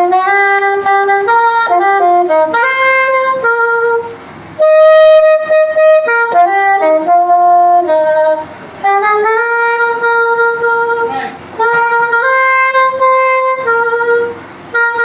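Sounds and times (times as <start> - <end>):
saxophone playing hymn melody: 0.0 - 15.0.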